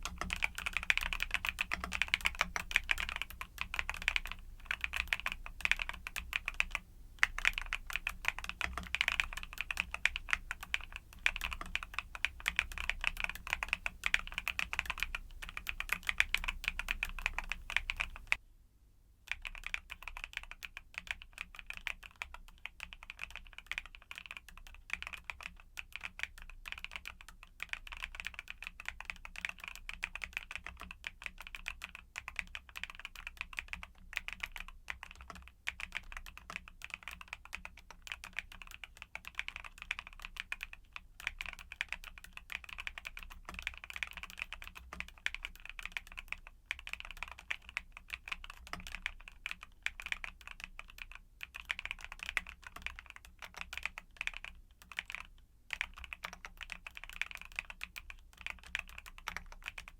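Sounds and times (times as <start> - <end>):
fast mechanical keyboard typing: 0.0 - 18.4, 19.3 - 59.9.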